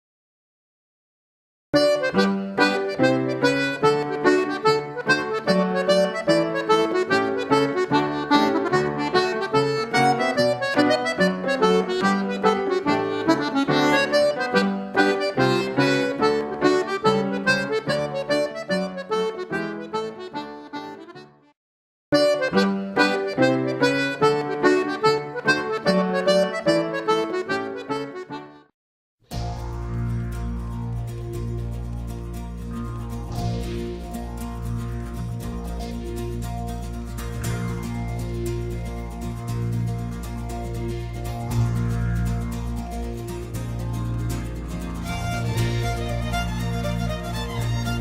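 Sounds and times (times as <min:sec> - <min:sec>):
irish dance tune on accordion: 0:01.8 - 0:21.5, 0:22.2 - 0:28.7, 0:31.9 - 0:48.0.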